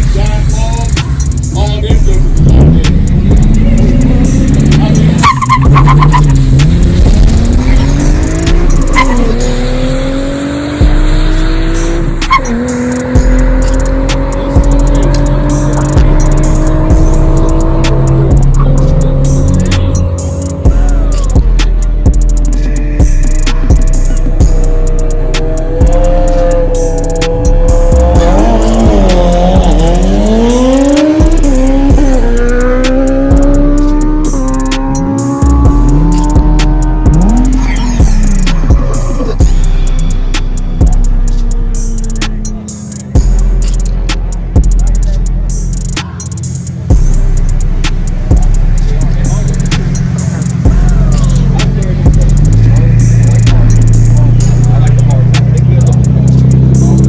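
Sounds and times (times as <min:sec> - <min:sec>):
car engine accelerating hard: 0:00.0 - 0:57.0
music with drum beat: 0:00.0 - 0:57.0.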